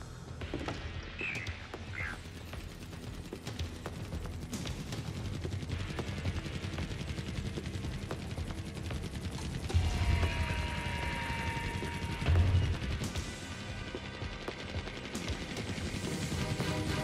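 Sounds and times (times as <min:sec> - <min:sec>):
sci-fi music: 0:00.0 - 0:17.0.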